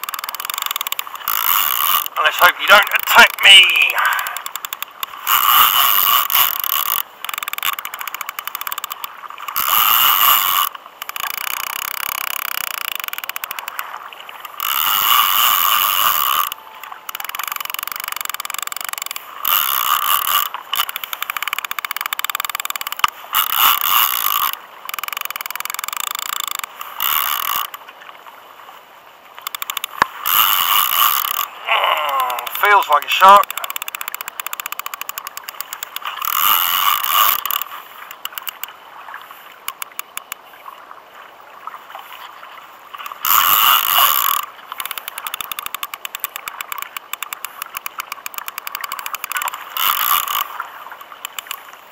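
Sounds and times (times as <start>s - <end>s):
fishing reel drag clicking: 0.0s - 27.9s, 29.3s - 40.8s, 42.0s - 51.9s.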